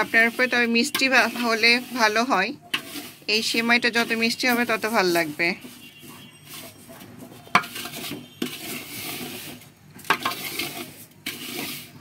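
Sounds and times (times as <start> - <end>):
frying sizzle: 0.0 - 12.0
wooden spatula scraping metal pot: 0.0 - 12.0.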